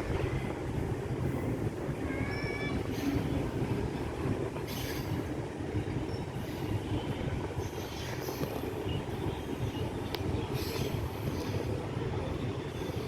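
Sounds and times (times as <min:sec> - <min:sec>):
freight train rumbling by: 0:00.0 - 0:13.0.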